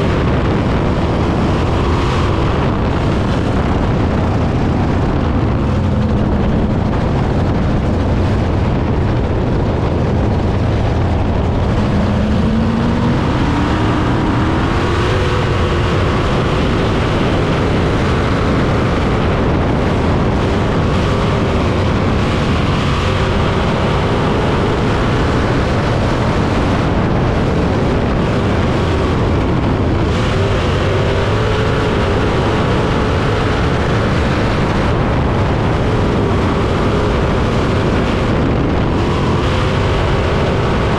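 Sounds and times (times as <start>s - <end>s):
race car engine at speed: 0.0s - 40.9s.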